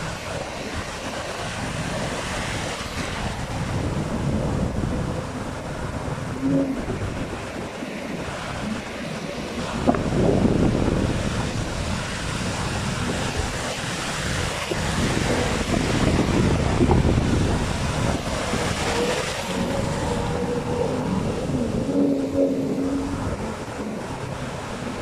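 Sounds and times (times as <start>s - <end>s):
outboard engines running: 0.0s - 25.0s
surf: 0.0s - 25.0s
wind buffeting microphone: 0.0s - 25.0s.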